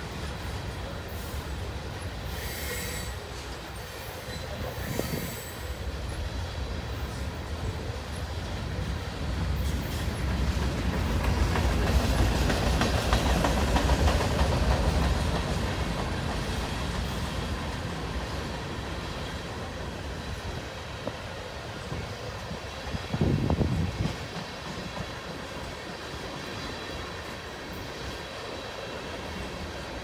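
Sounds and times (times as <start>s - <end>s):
freight train wheels on rail: 0.0s - 30.0s.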